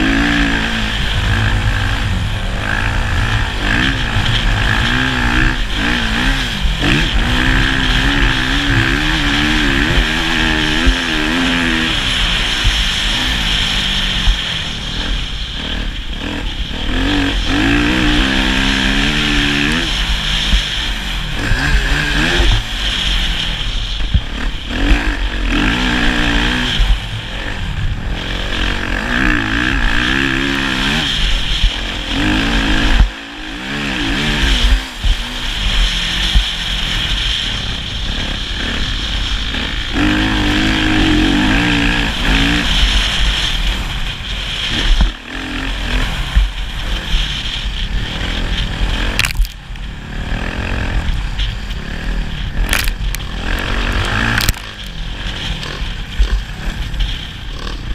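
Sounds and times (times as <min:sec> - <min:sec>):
motocross motorcycle engine revving: 0:00.0 - 0:57.9.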